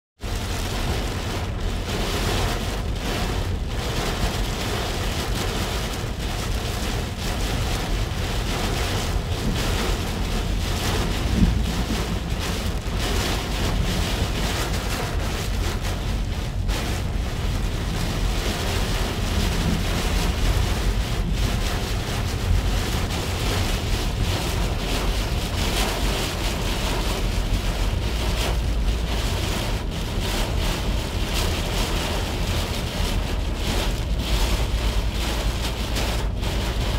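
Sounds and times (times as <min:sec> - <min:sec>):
car rumble on wet road: 0:00.2 - 0:36.9
heavy rain on car roof: 0:00.2 - 0:36.9.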